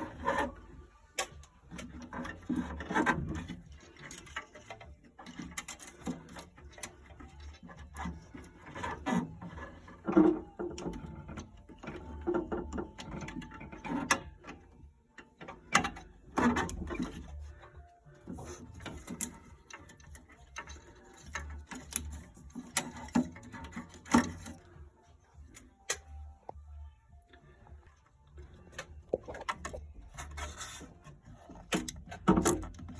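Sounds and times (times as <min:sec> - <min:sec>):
hand tools clicking and ratcheting: 0:00.0 - 0:26.4, 0:28.3 - 0:32.9.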